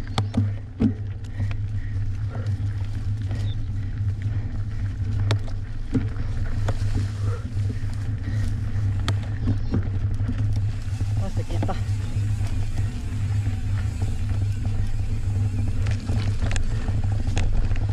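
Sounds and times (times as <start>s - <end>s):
bike knocking and rattling: 0.0s - 17.9s
low wind rumble on microphone: 0.0s - 17.9s.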